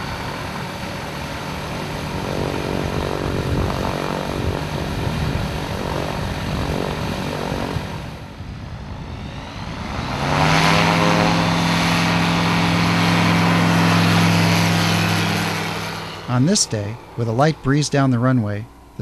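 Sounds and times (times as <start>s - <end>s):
light plane engine and propeller: 0.0s - 19.0s.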